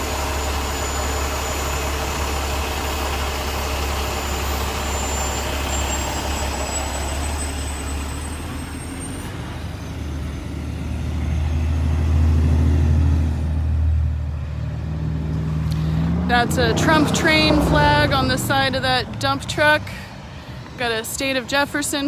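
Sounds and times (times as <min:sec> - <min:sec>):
truck engine rumble: 0:00.0 - 0:22.0
vehicles driving past: 0:00.0 - 0:22.0.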